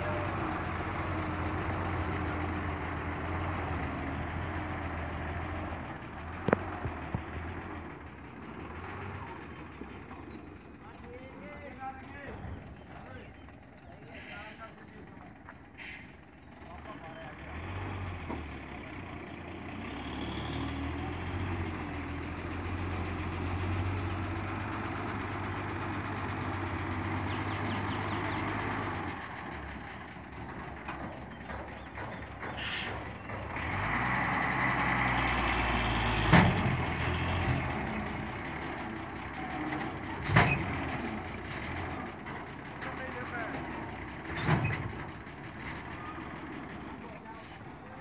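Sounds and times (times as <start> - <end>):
dump truck engine rumbling and revving: 0.0 - 48.0.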